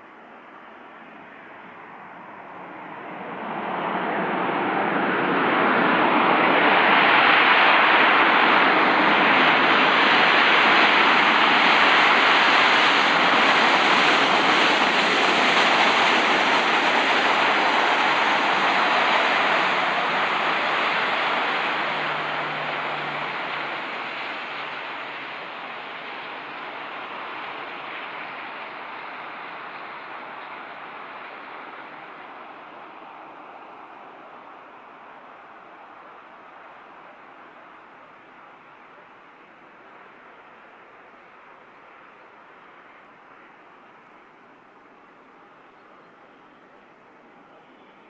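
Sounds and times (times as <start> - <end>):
jet engines taxiing: 0.0 - 48.0.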